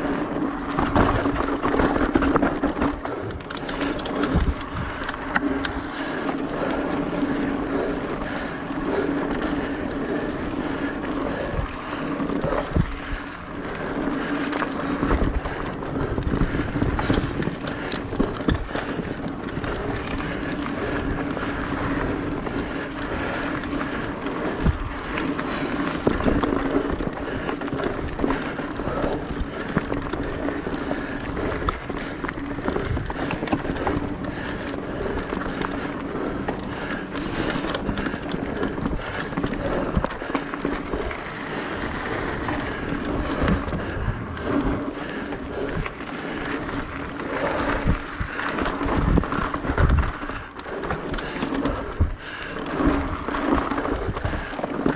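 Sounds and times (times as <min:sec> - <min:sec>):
bike knocking and rattling: 0:00.0 - 0:54.9
bike tyres rolling on dirt: 0:00.0 - 0:54.9.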